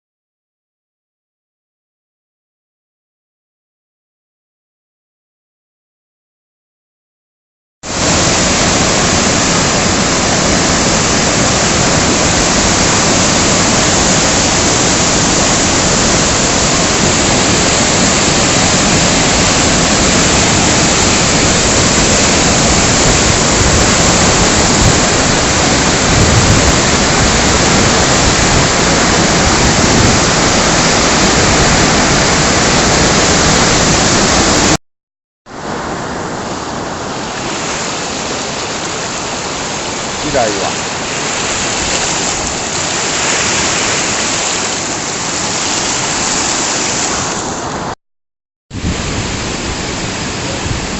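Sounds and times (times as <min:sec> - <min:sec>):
flooding river rushing: 0:07.9 - 0:34.8, 0:35.5 - 0:48.0, 0:48.8 - 0:50.9.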